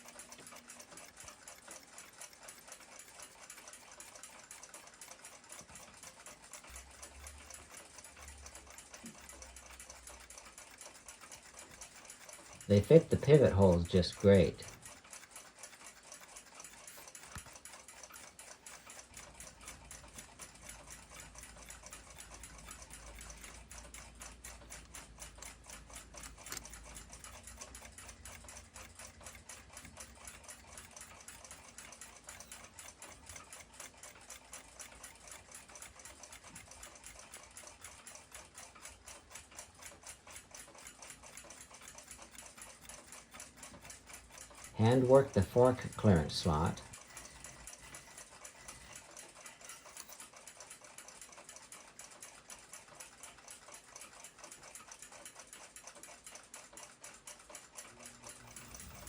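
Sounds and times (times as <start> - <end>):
fast mechanical ticking: 0.0 - 59.0.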